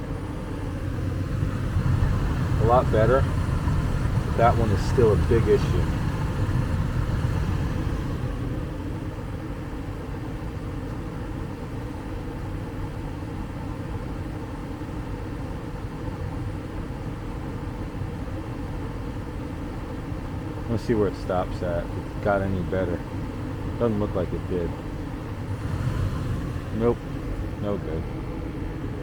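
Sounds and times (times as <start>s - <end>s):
gas furnace running: 0.0s - 29.0s.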